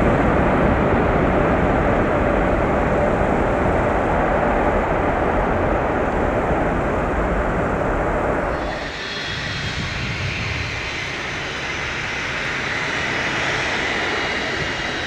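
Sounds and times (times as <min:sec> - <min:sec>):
jet engines roaring: 0:00.1 - 0:15.0.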